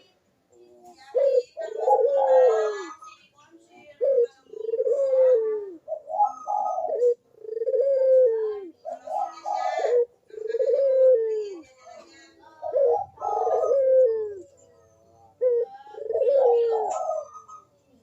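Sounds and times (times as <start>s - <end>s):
dove cooing: 0.6s - 3.1s, 3.8s - 18.0s.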